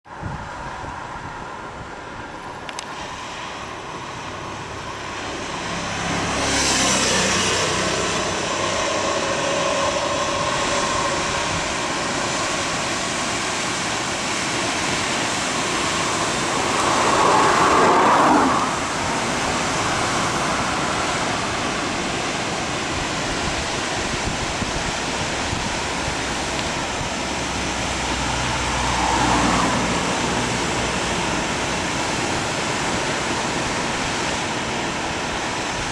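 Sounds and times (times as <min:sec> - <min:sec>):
wind: 0:00.0 - 0:35.9
surf rushing: 0:00.6 - 0:35.9.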